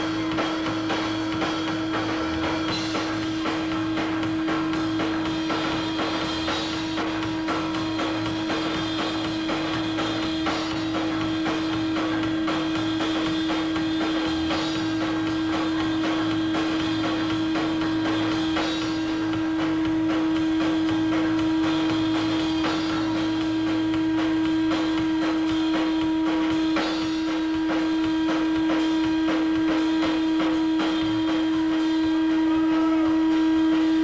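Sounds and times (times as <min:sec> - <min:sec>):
drum strikes: 0:00.0 - 0:34.0
loud droning tone: 0:00.0 - 0:34.0
rock band playing: 0:00.0 - 0:34.0.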